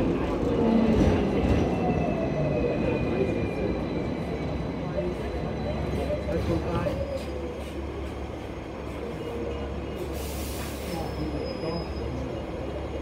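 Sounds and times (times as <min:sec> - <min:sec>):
tram humming: 0:00.0 - 0:13.0.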